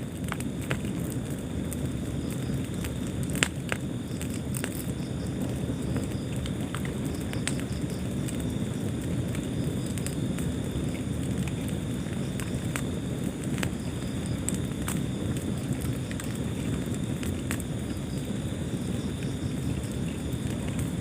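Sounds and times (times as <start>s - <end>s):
fire crackling and popping: 0.0s - 21.0s
fire rumbling in fireplace: 0.0s - 21.0s.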